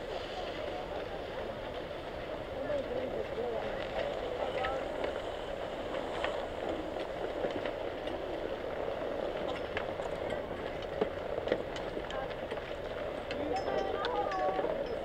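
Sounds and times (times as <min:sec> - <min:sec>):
faint voices: 0:00.0 - 0:15.0
steady rumble: 0:00.0 - 0:15.0
skis and poles clacking: 0:00.1 - 0:15.0.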